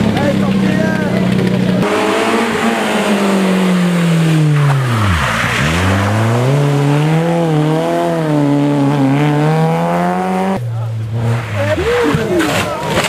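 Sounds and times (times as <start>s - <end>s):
rally car engine: 0.0s - 13.0s.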